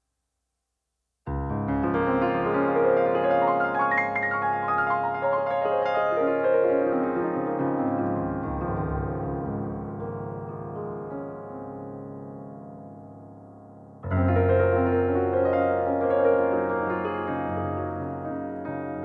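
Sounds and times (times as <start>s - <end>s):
piano music with sustained chords: 1.3s - 19.0s.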